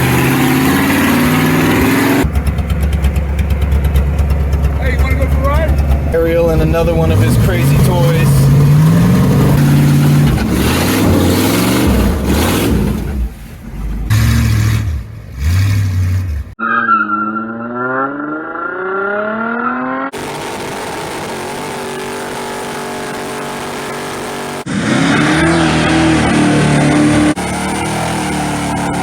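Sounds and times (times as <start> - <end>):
engine revving: 0.0 - 29.0.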